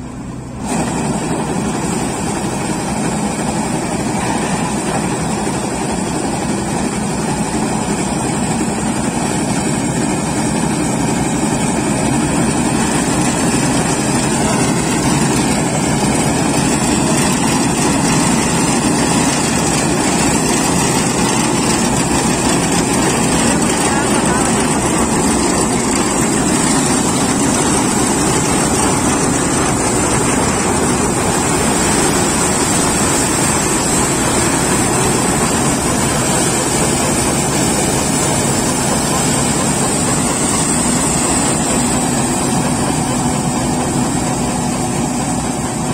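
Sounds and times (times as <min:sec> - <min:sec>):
combine harvester running: 0:00.0 - 0:45.9.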